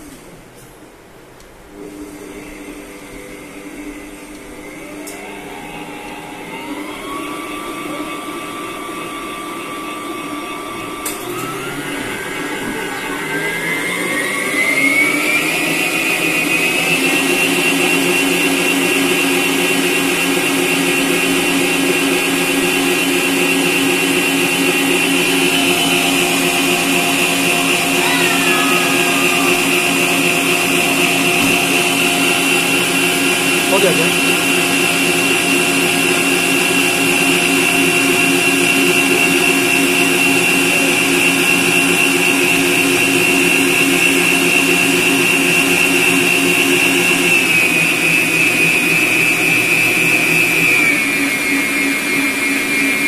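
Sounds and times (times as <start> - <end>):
stand mixer motor whine: 1.8 - 53.0.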